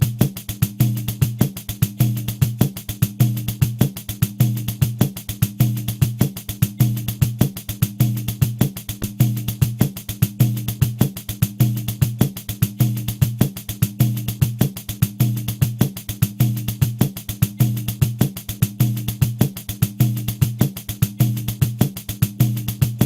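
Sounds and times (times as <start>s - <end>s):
deep drumhead bass tones: 0.0s - 23.0s.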